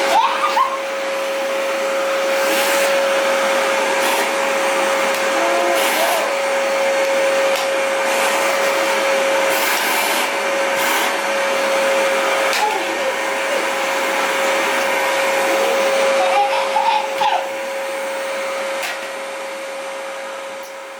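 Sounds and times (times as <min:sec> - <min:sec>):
vacuum cleaner running: 0:00.0 - 0:20.9.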